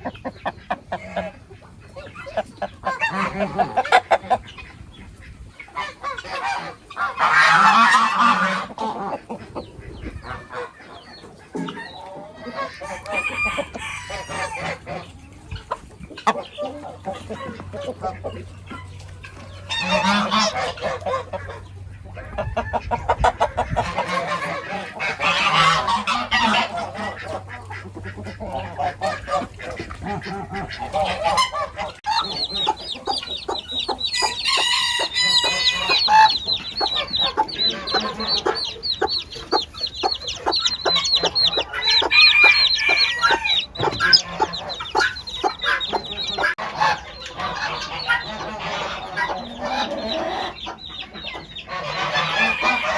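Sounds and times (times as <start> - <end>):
other fowl calls: 0.0 - 15.2, 15.9 - 52.9
chickens clucking: 0.0 - 52.9.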